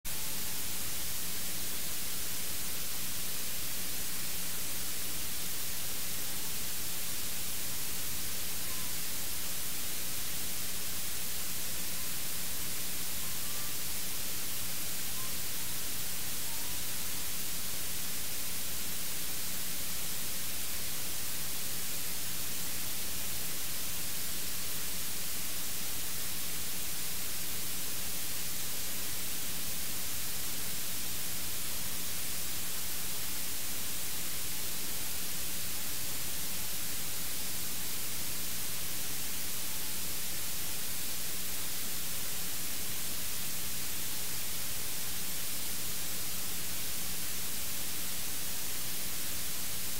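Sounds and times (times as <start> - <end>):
electronic hiss and static: 0.1 - 49.9
faint low hum: 0.1 - 49.9.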